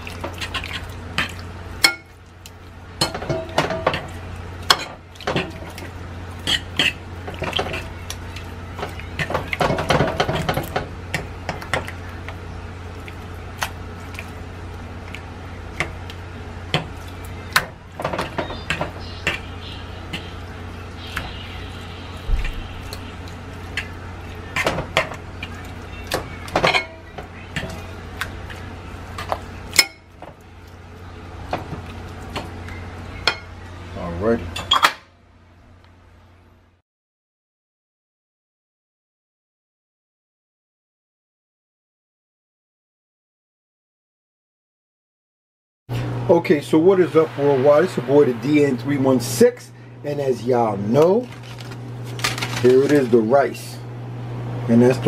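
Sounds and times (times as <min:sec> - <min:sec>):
steady low hum: 0:00.0 - 0:36.8, 0:45.9 - 0:55.0.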